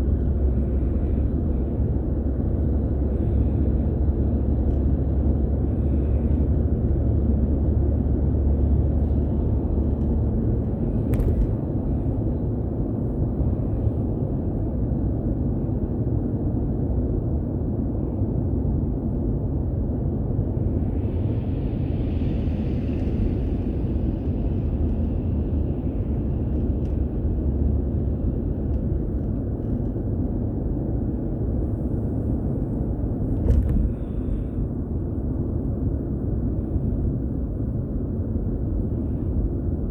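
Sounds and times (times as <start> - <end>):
car rumbling on the move: 0.0 - 15.3, 18.7 - 39.9.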